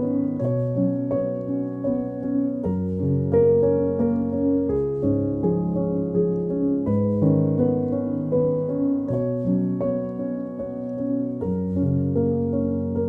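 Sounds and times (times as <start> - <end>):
calm instrumental music: 0.0 - 13.0.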